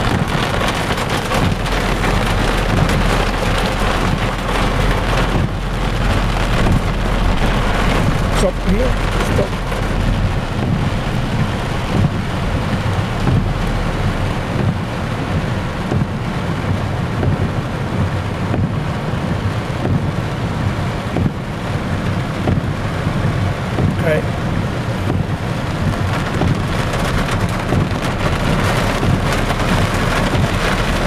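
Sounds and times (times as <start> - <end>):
deep rumble: 0.0 - 31.0
heavy rain on car roof: 0.0 - 31.0.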